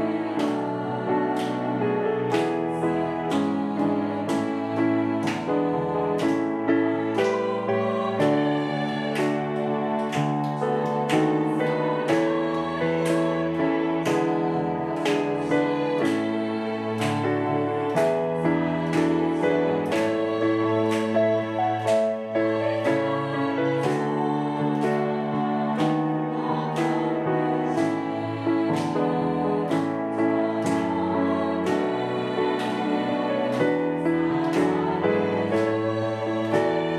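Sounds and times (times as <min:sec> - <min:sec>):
piano playing hymn chords: 0:00.0 - 0:36.9
women's choir singing: 0:00.0 - 0:36.9.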